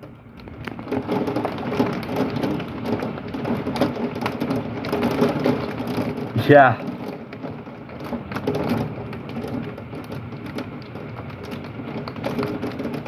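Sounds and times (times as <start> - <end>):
heavy rain on a window: 0.0 - 13.0.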